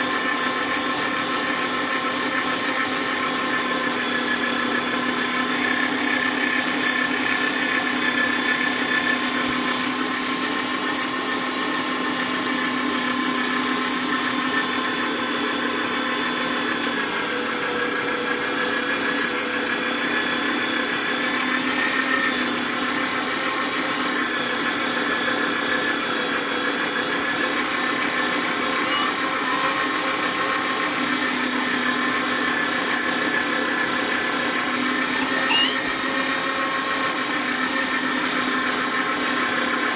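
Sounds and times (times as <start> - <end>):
meat grinder motor whining: 0.0 - 39.9.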